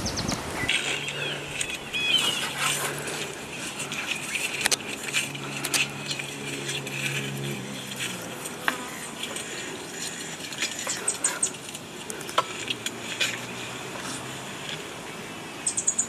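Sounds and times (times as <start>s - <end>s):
utensils scraping cooking pot: 0.6s - 15.2s.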